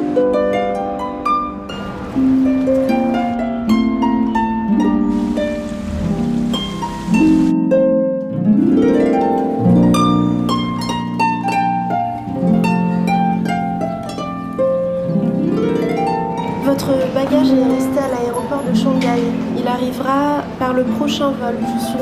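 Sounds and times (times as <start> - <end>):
harp music: 0.0 - 22.0.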